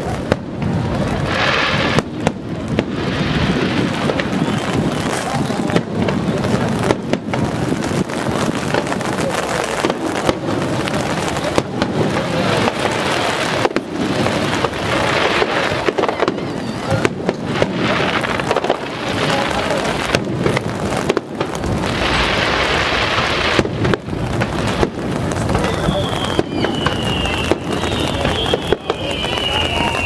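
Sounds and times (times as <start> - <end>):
fireworks bangs: 0.0 - 30.0
fireworks hiss: 0.0 - 30.0
low fireworks booms: 0.0 - 30.0.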